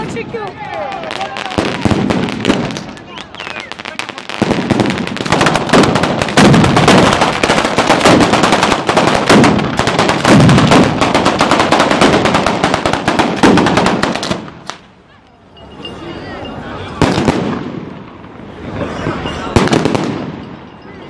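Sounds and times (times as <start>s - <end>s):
firecrackers banging: 0.0s - 15.9s, 16.8s - 21.0s.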